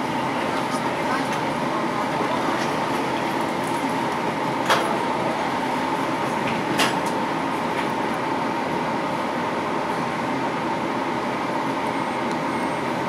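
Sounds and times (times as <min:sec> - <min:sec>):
train car hum: 0:00.0 - 0:13.0.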